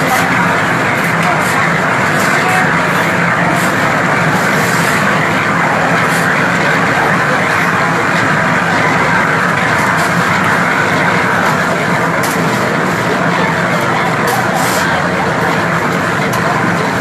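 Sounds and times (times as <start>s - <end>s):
bustle of work crew: 0.0s - 17.0s
loud mechanical drone: 0.0s - 17.0s.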